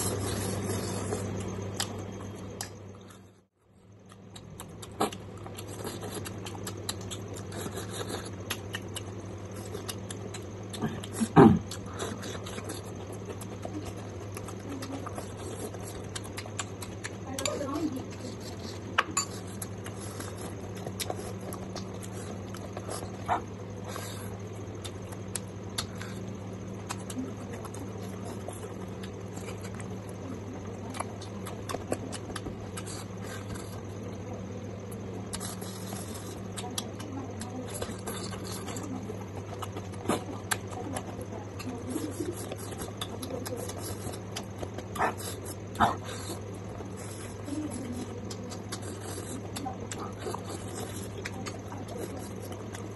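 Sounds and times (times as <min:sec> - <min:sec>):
chewing and lip-smacking: 0:00.0 - 0:52.9
steady low hum: 0:00.0 - 0:52.9.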